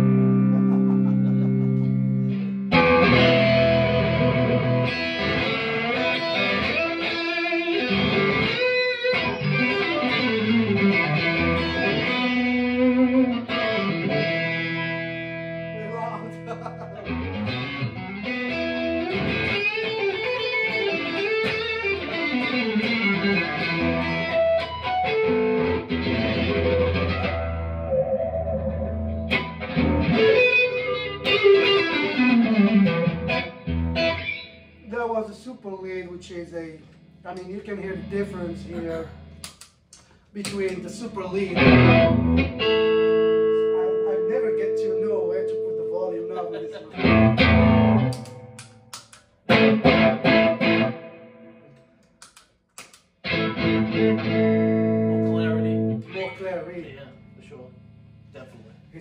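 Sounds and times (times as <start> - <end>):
overdriven electric guitar: 0.0 - 34.9, 41.3 - 56.5.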